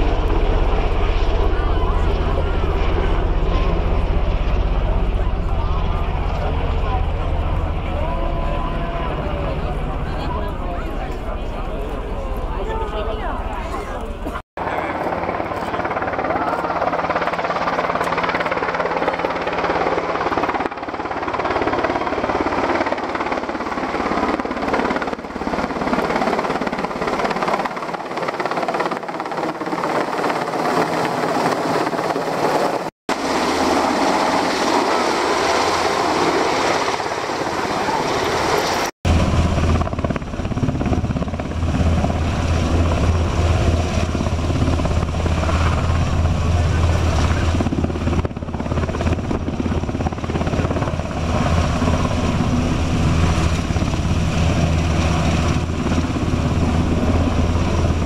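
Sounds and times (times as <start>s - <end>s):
helicopter hovering overhead: 0.0s - 58.0s.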